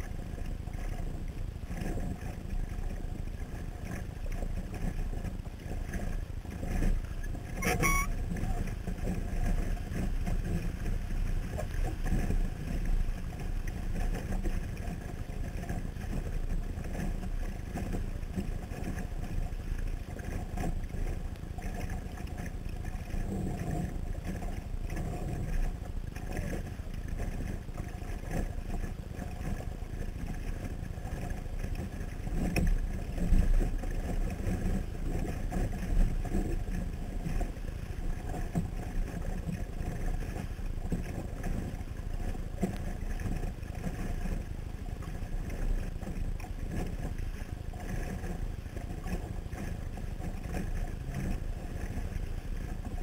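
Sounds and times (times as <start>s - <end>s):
water noise: 0.0s - 53.0s.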